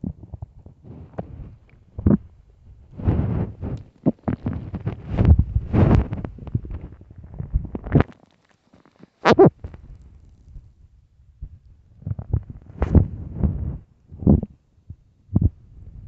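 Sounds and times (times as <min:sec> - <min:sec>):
stomach growling: 0:00.0 - 0:10.6, 0:11.9 - 0:14.6.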